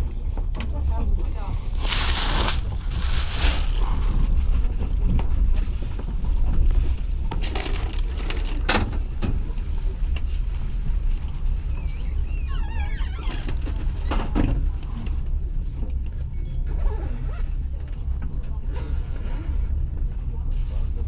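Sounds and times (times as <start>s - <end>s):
train carriage rumbling: 0.0s - 21.0s.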